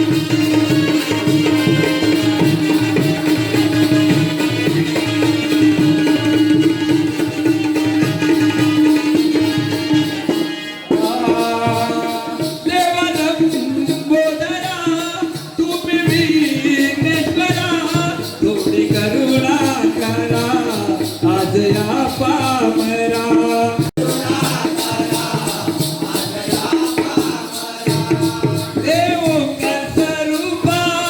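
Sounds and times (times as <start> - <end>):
hand drums beat: 0.0 - 31.0
jingling percussion: 0.0 - 31.0.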